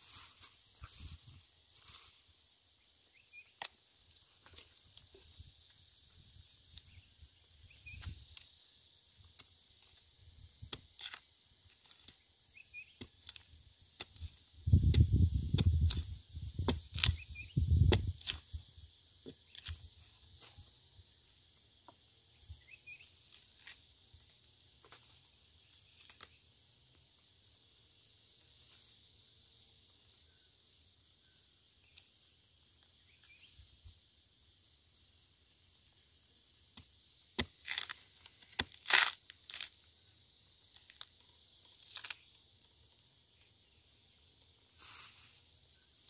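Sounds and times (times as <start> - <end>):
high insect hiss: 0.0 - 46.0.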